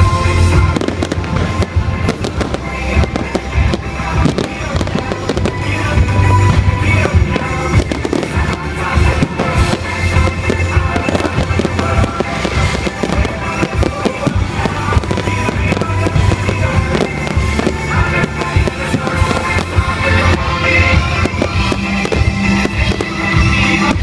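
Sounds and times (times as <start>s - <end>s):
fireworks bursting and crackling: 0.0s - 24.0s
loud music playing: 0.0s - 24.0s.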